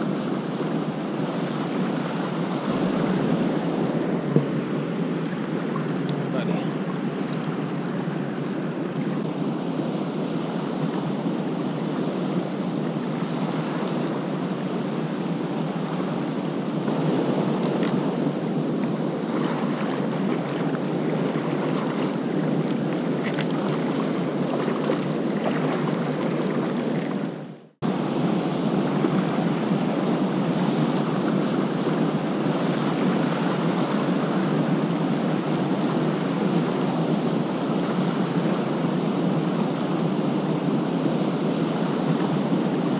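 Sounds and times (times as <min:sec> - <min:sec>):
water rushing from dam spillway: 0:00.0 - 0:42.9.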